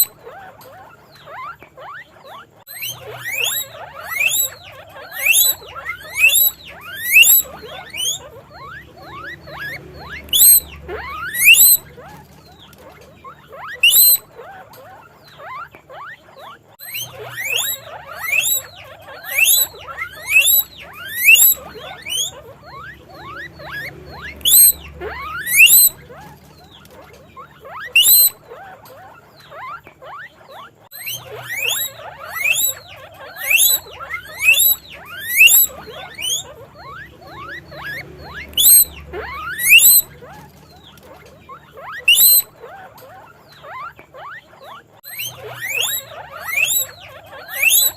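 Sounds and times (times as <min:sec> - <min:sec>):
guinea pig wheeking: 0:00.0 - 0:47.9.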